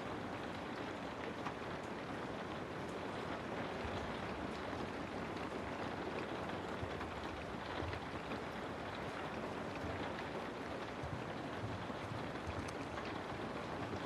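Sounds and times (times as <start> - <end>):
rain falling: 0.0 - 14.0
raindrop ticks: 0.8 - 14.0.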